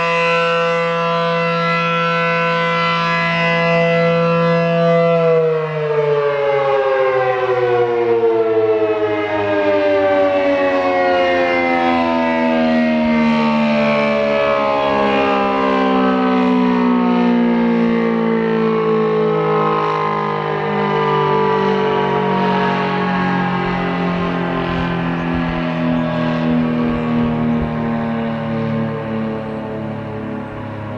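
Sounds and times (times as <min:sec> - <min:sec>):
warning siren falling in pitch: 0:00.0 - 0:30.9.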